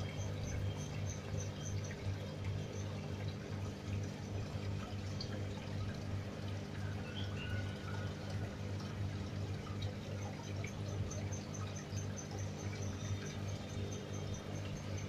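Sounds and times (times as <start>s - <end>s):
aquarium water bubbling: 0.0s - 15.0s
steady low hum: 0.0s - 15.0s.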